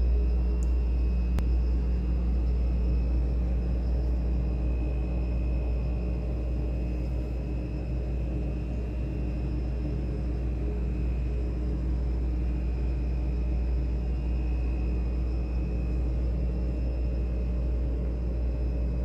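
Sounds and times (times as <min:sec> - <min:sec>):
freezer humming with whine: 0:00.0 - 0:19.0.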